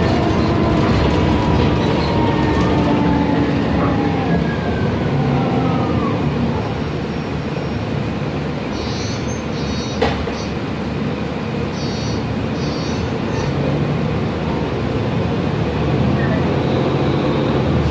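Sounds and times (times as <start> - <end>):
bus engine and road rumble: 0.0 - 17.9.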